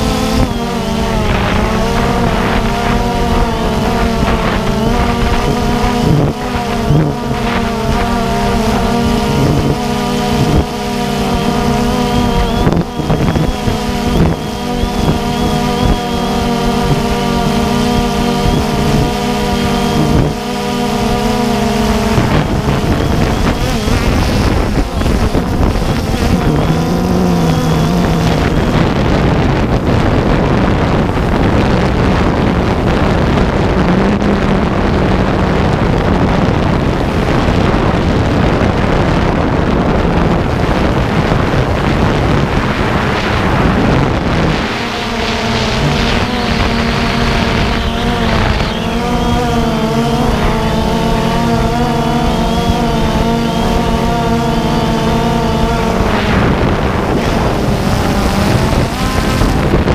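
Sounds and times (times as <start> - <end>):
drone propellers buzzing: 0.0 - 59.9
wind noise on microphone: 0.0 - 59.9.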